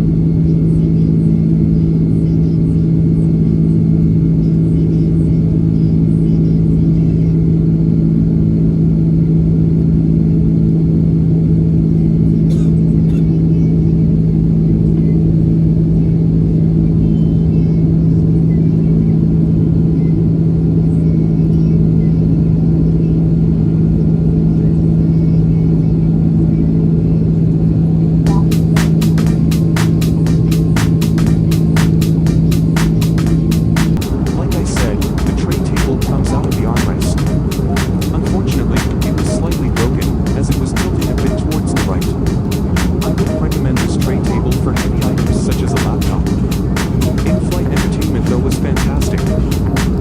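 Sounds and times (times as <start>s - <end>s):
airplane cabin drone: 0.0s - 50.0s.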